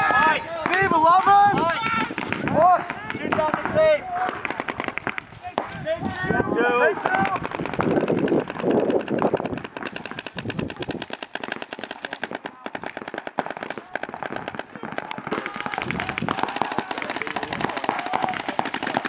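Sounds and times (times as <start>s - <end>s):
paintball markers firing: 0.0s - 5.9s, 7.0s - 19.0s.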